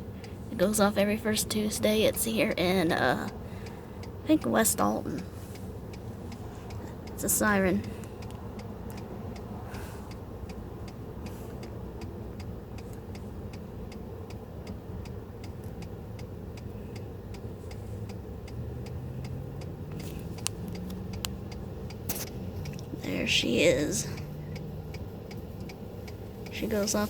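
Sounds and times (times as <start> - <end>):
rapid even ticking: 0.0 - 27.0.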